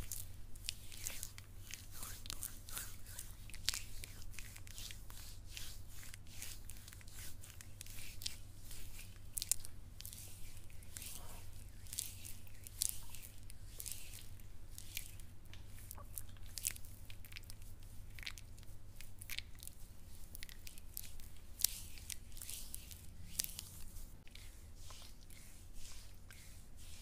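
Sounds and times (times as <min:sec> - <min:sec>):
faint low hum: 0:00.0 - 0:27.0
hands scratching body scrub on skin: 0:00.0 - 0:27.0.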